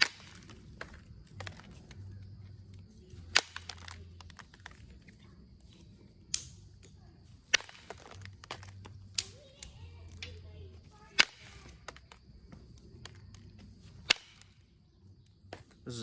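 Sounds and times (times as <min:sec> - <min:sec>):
billet striking stone cracks: 0:00.0 - 0:15.8.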